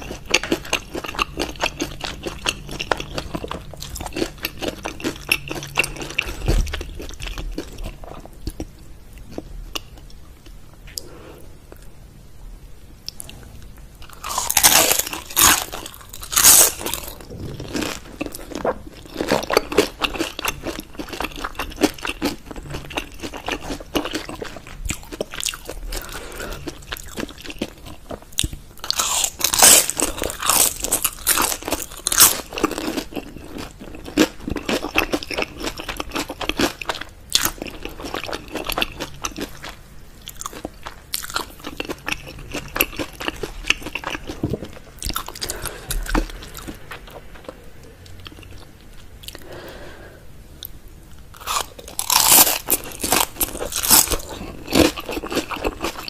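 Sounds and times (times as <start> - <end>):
crunchy chewing of fried food: 0.0 - 11.9, 13.1 - 49.9, 50.6 - 56.0.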